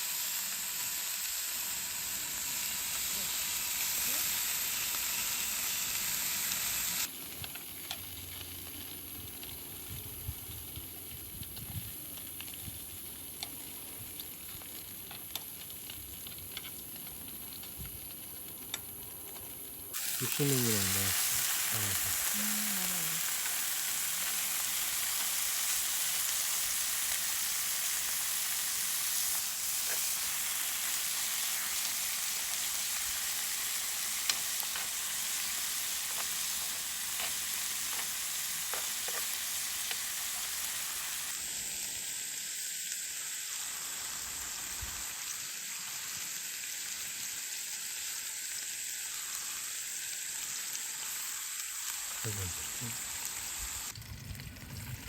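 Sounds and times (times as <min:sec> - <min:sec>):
food sizzling in a pan: 0:00.0 - 0:18.5, 0:19.5 - 0:55.0.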